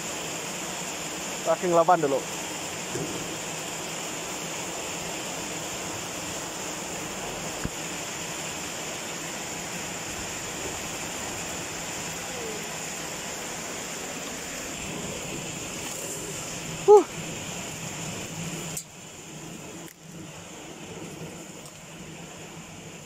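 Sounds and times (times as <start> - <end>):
rain falling on pond: 0.0 - 23.0.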